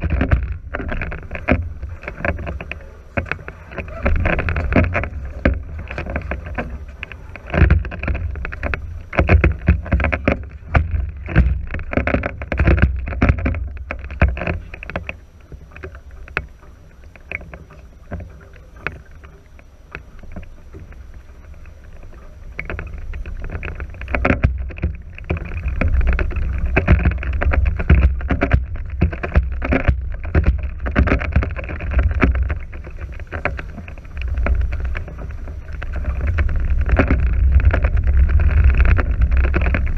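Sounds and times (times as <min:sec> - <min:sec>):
water slapping against hulls: 0:00.0 - 0:39.9
wind rumbling on microphone: 0:00.0 - 0:39.9.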